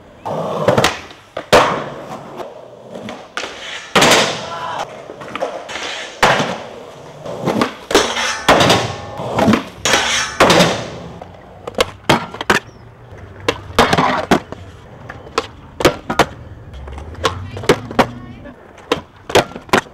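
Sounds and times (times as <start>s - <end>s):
skateboard wheels rolling on concrete: 0.0s - 19.9s
skateboard trucks grinding on metal: 0.2s - 19.9s
skateboard tail popping: 0.3s - 19.9s
skateboard landing clacks: 0.6s - 19.9s.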